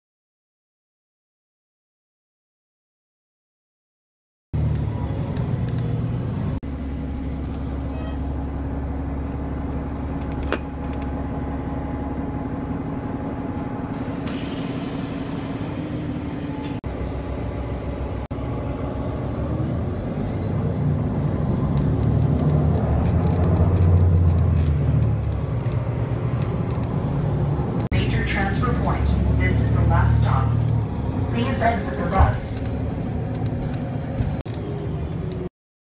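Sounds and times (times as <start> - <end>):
low engine rumble: 4.6 - 35.5.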